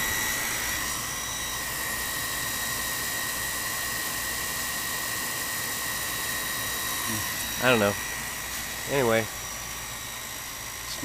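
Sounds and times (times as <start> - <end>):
electric water pump whirring: 0.0 - 11.0.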